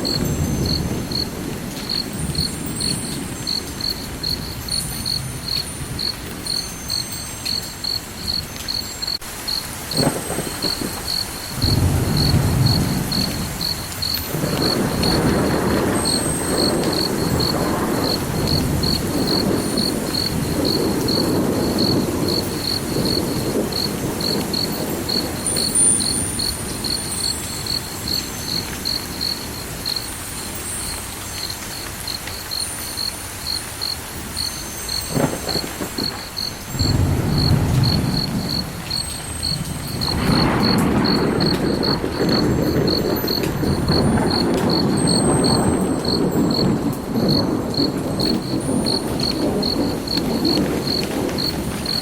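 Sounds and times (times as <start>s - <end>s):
cricket chirping: 0.0s - 52.0s.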